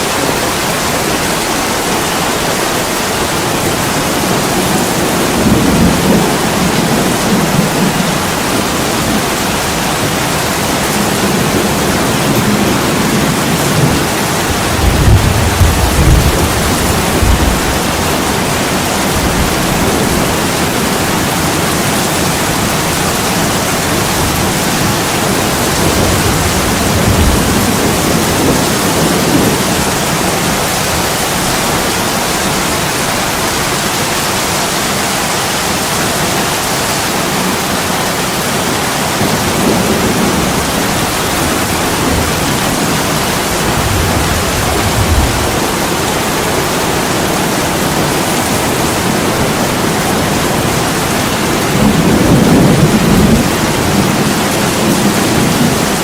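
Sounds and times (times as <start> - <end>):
heavy rain on a window: 0.0 - 56.0
thunder rumbling: 0.2 - 34.1, 37.6 - 56.0.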